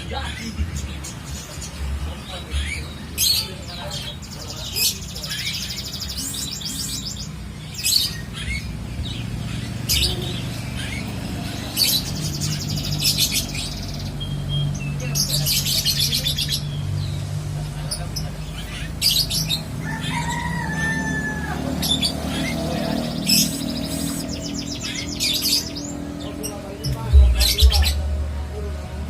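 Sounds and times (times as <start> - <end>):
birds chirping in shrill trills: 0.0 - 28.1.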